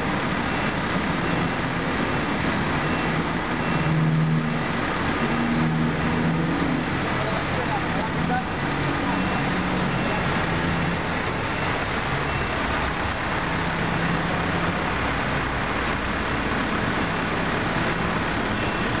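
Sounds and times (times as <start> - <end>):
road traffic noise: 0.0 - 19.0
truck engine running: 0.0 - 19.0.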